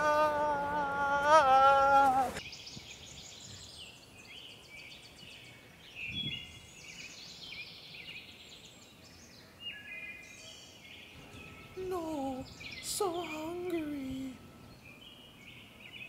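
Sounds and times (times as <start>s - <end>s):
small birds chirping: 2.2s - 16.0s.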